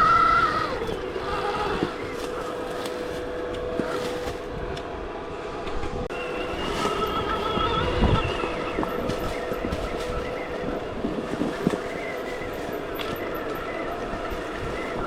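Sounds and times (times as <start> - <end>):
rough noise of wheels and wind: 0.0 - 15.0.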